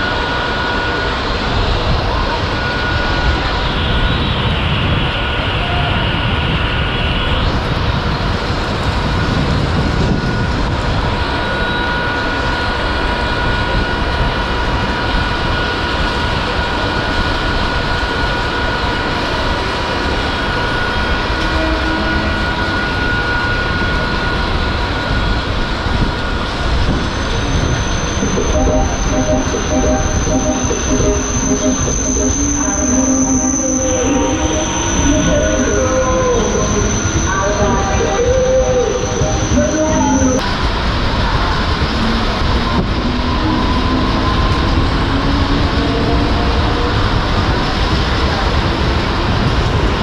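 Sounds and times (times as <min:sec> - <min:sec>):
high whine: 0:00.0 - 0:18.5, 0:20.2 - 0:49.9
train coaches rumbling: 0:00.0 - 0:50.0.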